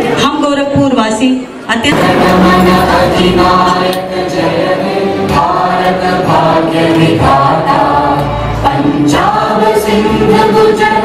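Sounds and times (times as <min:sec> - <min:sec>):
choir singing: 0:01.9 - 0:11.0
musical accompaniment: 0:01.9 - 0:11.0.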